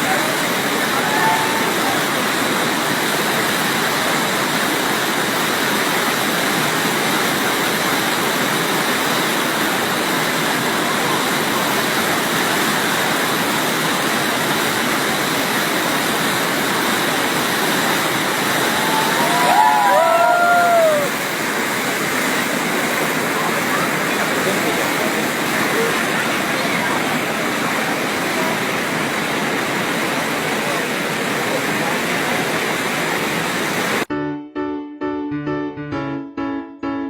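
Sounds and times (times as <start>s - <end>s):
waterfall rushing: 0.0s - 34.1s.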